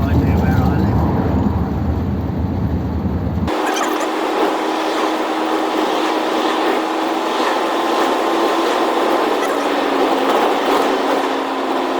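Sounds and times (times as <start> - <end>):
car engine drone: 0.0 - 11.9
road noise: 0.0 - 11.9
wind noise: 0.0 - 11.9.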